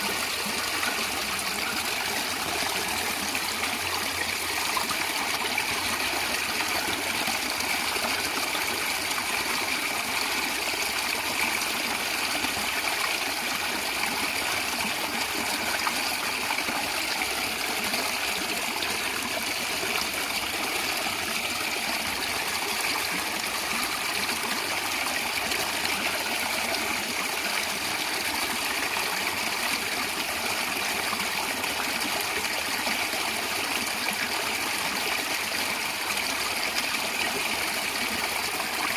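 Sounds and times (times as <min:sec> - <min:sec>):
stream water flowing and gurgling: 0:00.0 - 0:38.9.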